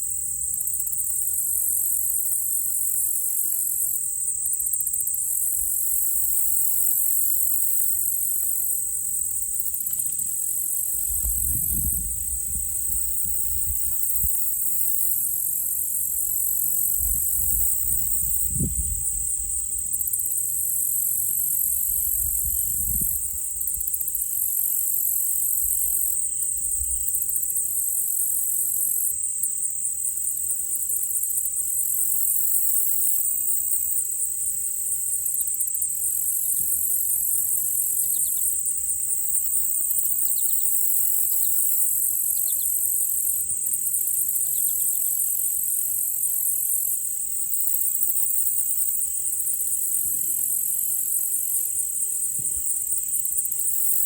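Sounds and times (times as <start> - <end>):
insects pulsing trill: 0.0 - 54.0.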